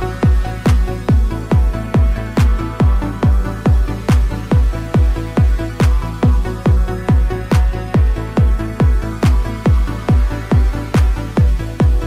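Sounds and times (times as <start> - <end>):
electronic music: 0.0 - 12.0
steady kick drum beat: 0.0 - 12.0.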